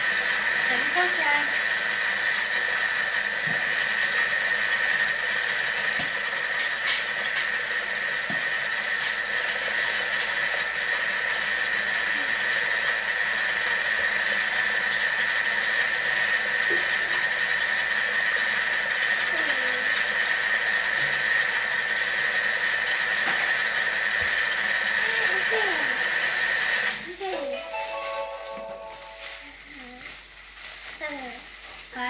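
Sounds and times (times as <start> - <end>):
food processor motor whining: 0.0 - 27.2.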